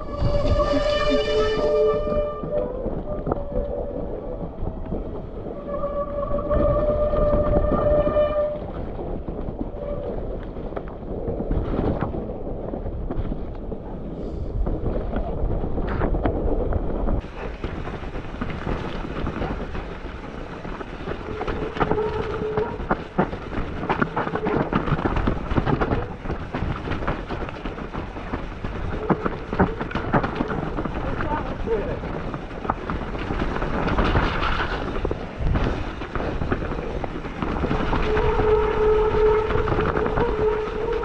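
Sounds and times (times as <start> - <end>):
bike chain and frame clatter: 0.0 - 41.0
bike tyres over roots and stones: 0.0 - 41.0
wind buffeting microphone: 0.0 - 41.0.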